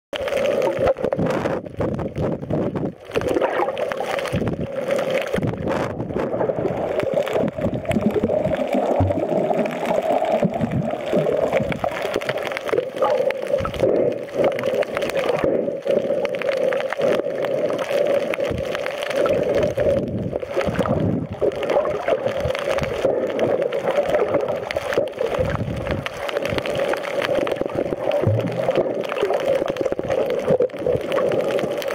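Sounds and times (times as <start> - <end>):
underwater water gurgling: 0.1 - 31.9.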